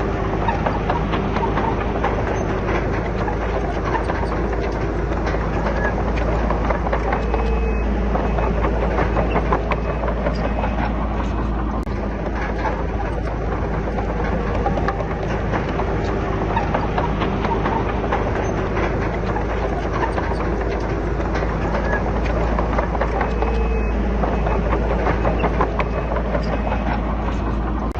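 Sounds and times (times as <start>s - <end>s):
low diesel engine drone: 0.0s - 27.9s
machinery clanking and rattling: 0.0s - 27.9s.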